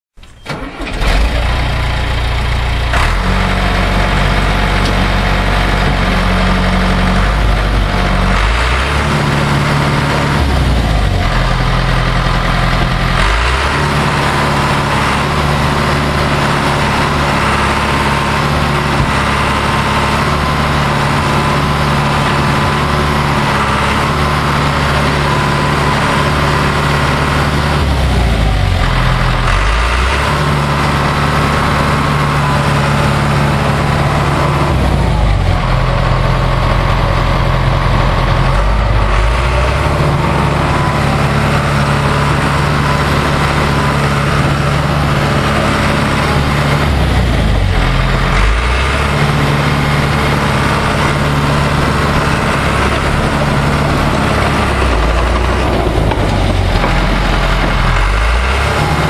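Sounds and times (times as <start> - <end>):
diesel engine idling: 0.4 - 59.0.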